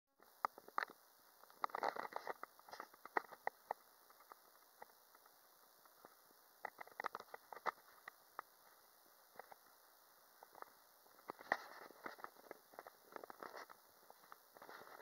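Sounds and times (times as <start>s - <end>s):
camera microphone crackles and clicks: 0.2s - 15.0s.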